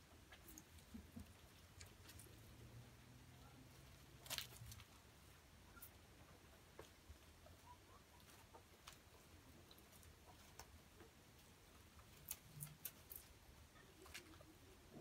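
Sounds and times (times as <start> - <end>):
guinea pigs nibbling: 0.0 - 15.0.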